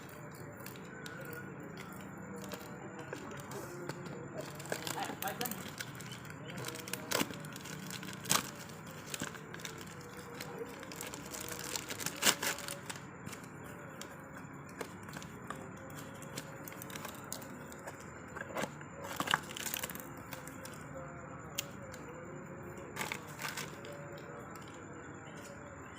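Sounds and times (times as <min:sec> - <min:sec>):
packaging crinkling and rustling: 0:00.0 - 0:20.8, 0:23.0 - 0:24.8.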